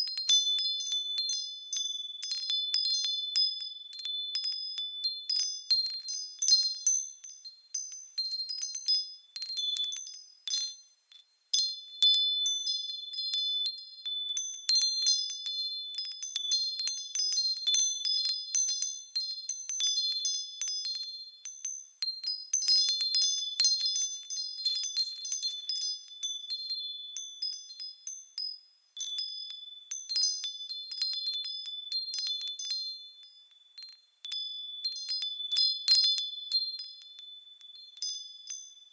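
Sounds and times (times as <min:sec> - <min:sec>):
wind chimes tinkling: 0:00.0 - 0:38.9.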